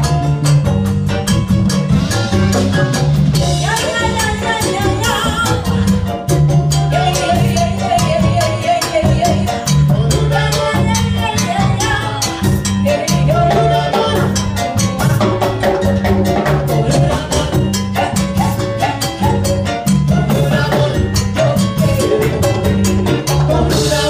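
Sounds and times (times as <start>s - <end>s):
salsa band playing: 0.0s - 24.0s.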